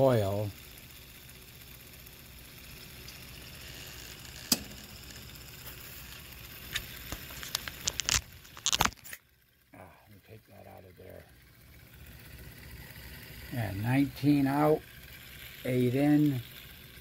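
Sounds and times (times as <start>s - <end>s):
faint motor rotor whir: 0.0s - 17.0s.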